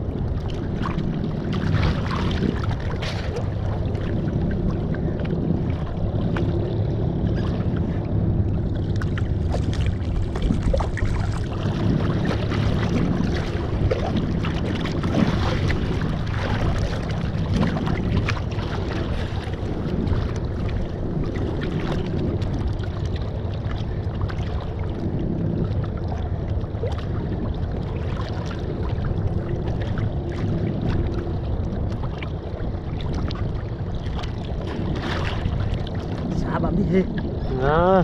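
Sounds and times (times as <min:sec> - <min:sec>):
choppy sea water sloshing: 0:00.0 - 0:38.0
low rumble: 0:00.0 - 0:38.0
wind rushing over microphone: 0:00.0 - 0:38.0.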